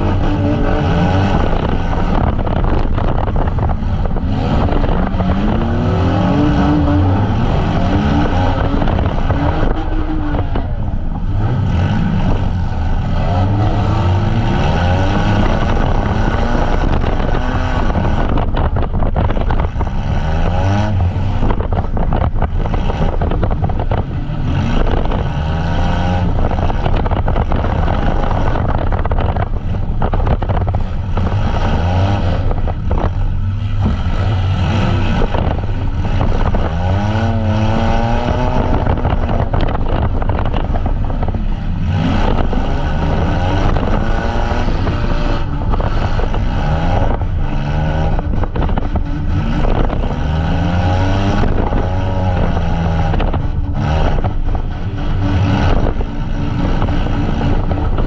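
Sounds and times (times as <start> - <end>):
engines revving: 0.0 - 58.0.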